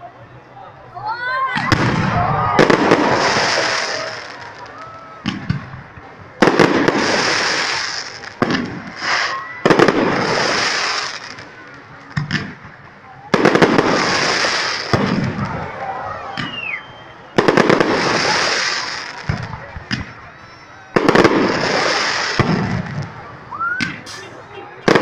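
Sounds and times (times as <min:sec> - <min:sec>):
fireworks bangs: 0:01.5 - 0:25.0
fireworks crackle: 0:01.6 - 0:25.0.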